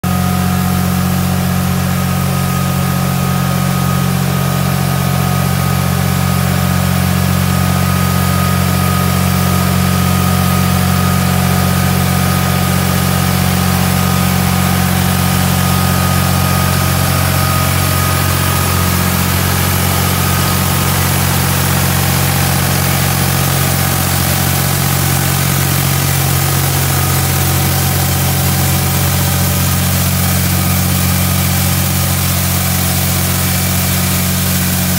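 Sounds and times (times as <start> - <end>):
tractor engine running: 0.0 - 34.9
thin steady whine: 0.1 - 34.9.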